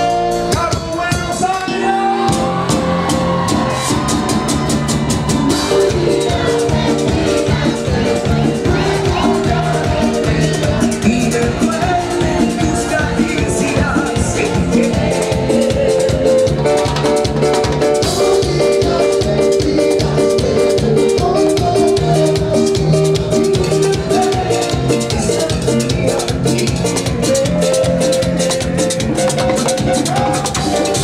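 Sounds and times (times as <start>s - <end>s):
drum kit fast beat: 0.0s - 31.0s
live band playing: 0.0s - 31.0s.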